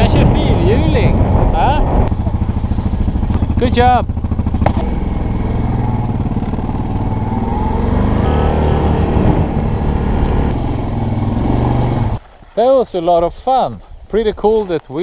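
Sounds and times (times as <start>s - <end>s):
atv engine running: 0.0s - 12.2s.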